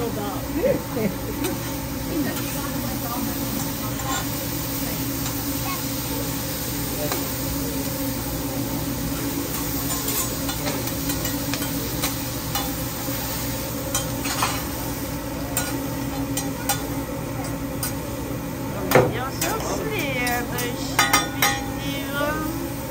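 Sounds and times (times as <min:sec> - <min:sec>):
vegetables sizzling on a griddle: 0:00.0 - 0:22.9.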